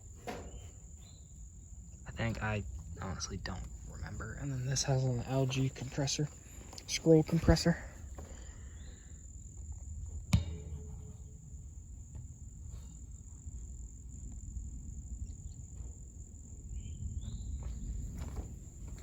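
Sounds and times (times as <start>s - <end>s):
air conditioner units humming: 0.0s - 19.0s
cricket trill: 0.0s - 19.0s.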